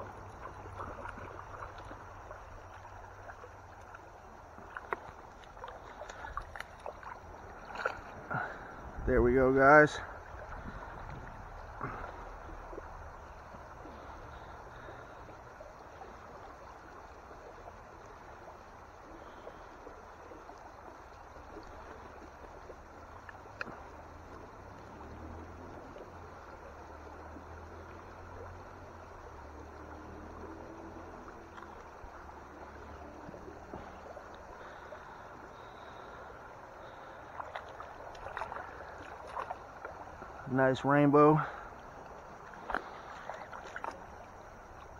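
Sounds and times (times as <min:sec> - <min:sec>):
stream rippling over stones: 0:00.0 - 0:44.9.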